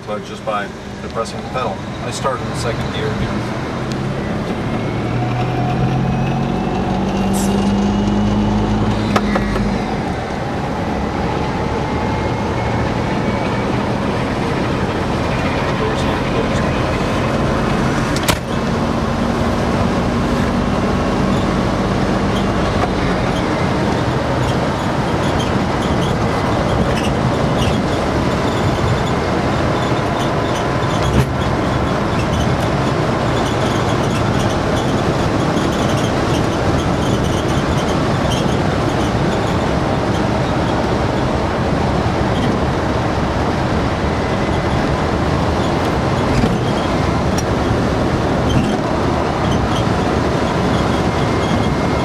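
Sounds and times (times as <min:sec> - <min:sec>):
car road and running noise: 0:00.0 - 0:52.0.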